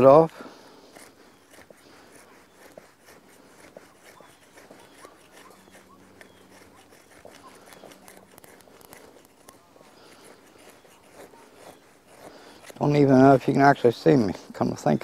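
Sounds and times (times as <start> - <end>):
knife shaving wood: 0.0 - 15.0.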